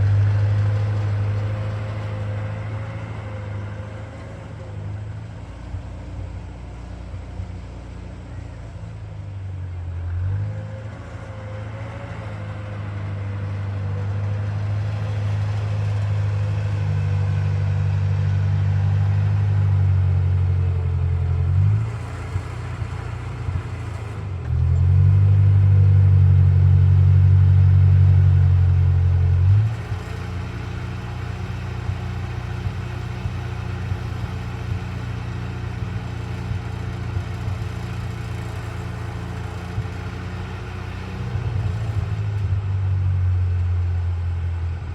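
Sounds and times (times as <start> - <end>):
tractor engine running hard: 0.0 - 44.9.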